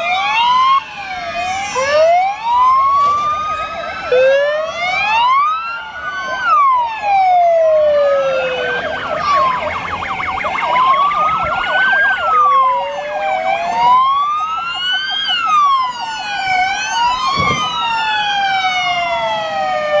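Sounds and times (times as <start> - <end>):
fire engine sirens wailing and yelping: 0.0 - 20.0.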